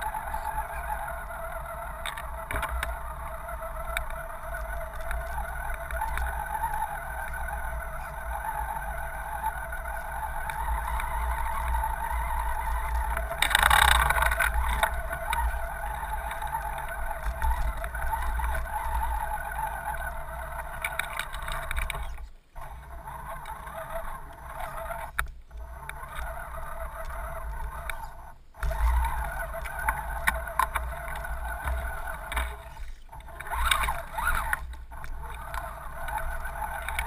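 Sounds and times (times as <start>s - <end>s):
electric motor whining: 0.0s - 37.0s.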